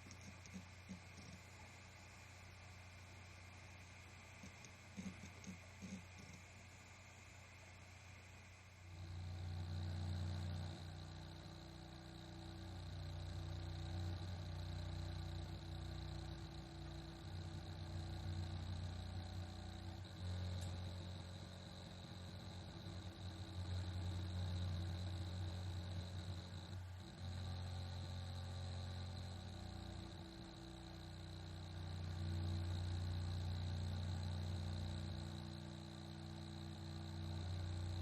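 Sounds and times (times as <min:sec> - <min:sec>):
faint high whine: 0:00.0 - 0:38.0
hard drive humming: 0:00.0 - 0:38.0.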